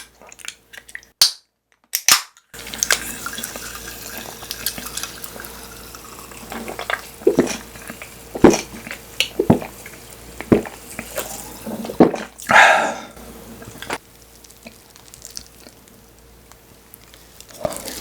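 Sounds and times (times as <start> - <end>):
wet chewing: 2.7 - 12.9, 13.6 - 18.0.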